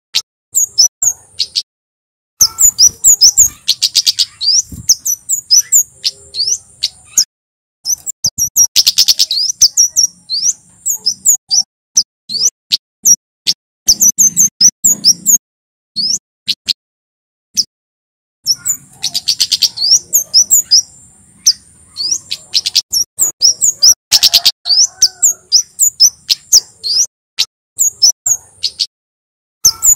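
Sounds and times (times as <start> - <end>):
bird singing high chirps: 0.6 - 1.7, 2.4 - 13.2, 13.9 - 15.4, 16.0 - 16.7, 18.4 - 27.1, 27.8 - 28.9, 29.6 - 29.9.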